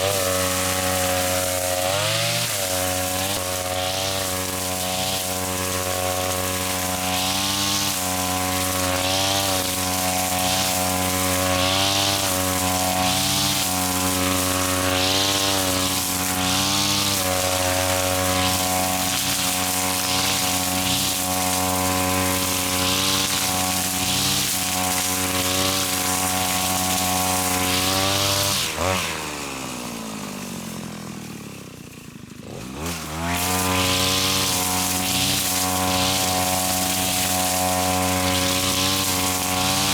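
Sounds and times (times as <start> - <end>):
grass cutter engine revving: 0.0 - 39.9
swishes of cutting grass: 0.0 - 39.9.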